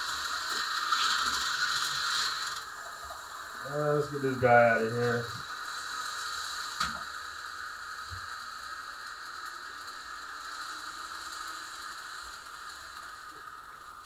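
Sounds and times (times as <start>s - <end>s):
electric motors whining: 0.0s - 14.0s.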